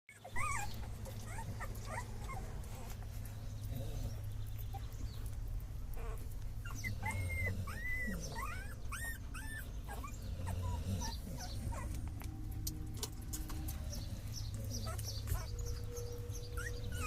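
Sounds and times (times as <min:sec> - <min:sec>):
puppies whimpering: 0:00.1 - 0:17.0
steady low hum: 0:00.2 - 0:17.0.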